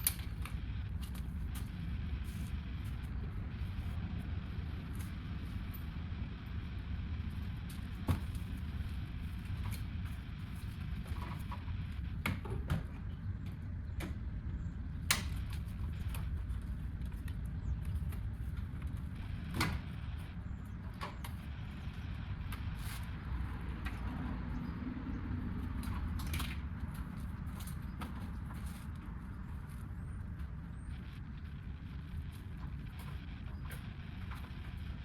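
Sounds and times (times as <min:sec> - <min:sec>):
low rumble: 0:00.0 - 0:35.0.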